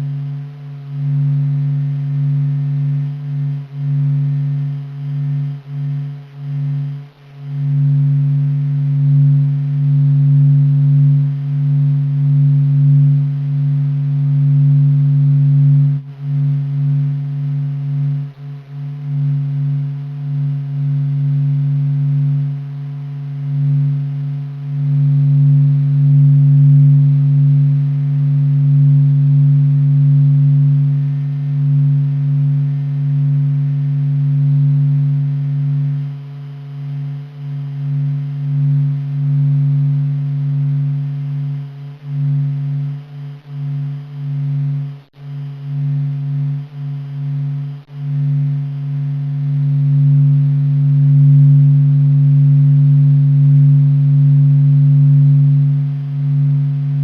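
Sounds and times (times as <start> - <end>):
low humming drone: 0.0 - 57.0.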